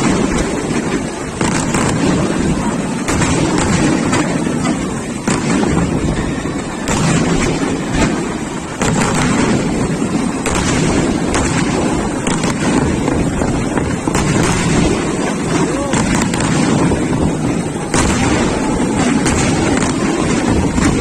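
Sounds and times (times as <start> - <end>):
fireworks pops: 0.0 - 21.0
wind buffeting microphone: 0.0 - 21.0.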